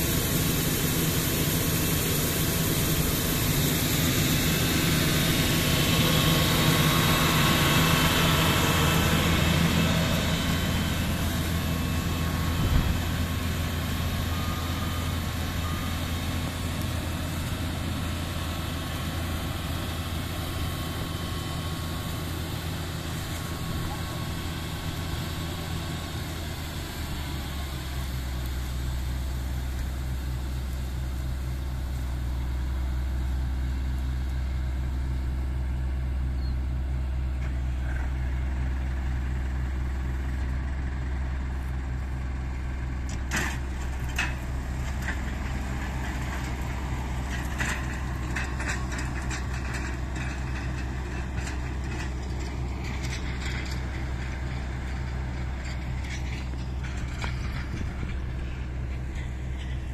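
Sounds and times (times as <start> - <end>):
combine harvester droning: 0.0 - 59.9.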